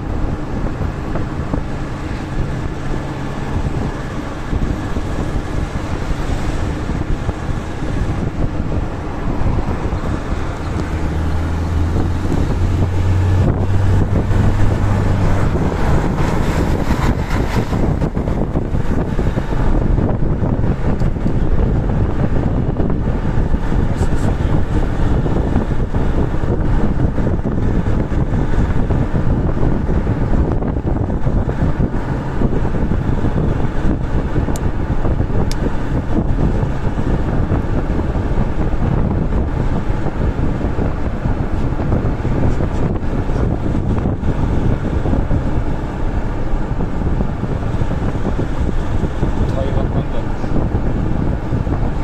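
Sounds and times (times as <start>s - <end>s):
road and wind noise inside vehicle: 0.0s - 52.0s.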